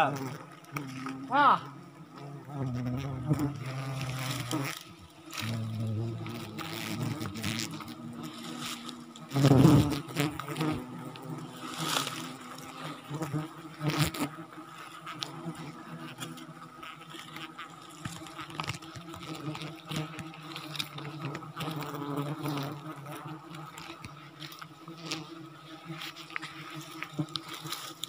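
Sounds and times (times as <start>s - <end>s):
flying insects buzzing: 0.0s - 28.0s.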